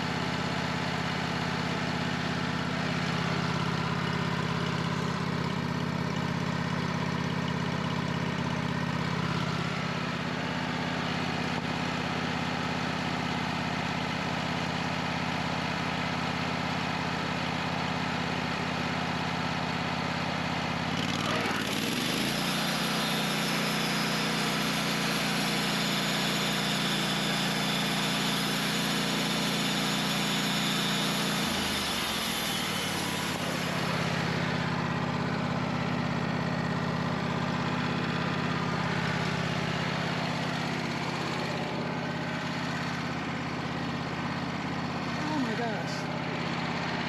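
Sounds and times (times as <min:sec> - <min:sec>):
sawmill engine running: 0:00.0 - 0:47.0.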